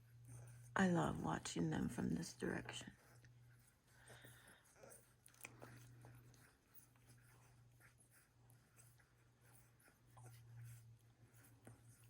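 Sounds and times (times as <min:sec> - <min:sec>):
low steady hum: 0:00.0 - 0:12.0
puppies nursing: 0:00.0 - 0:12.0.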